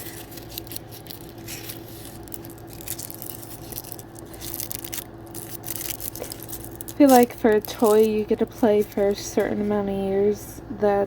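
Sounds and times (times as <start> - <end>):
plastic packaging crinkling: 0.0 - 9.4
steady low hum: 0.0 - 11.0.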